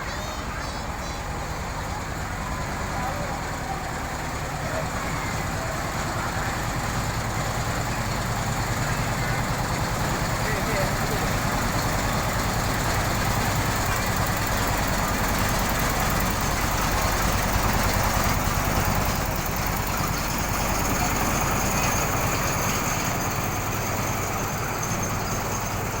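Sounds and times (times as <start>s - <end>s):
diesel train engine running: 0.0s - 26.0s.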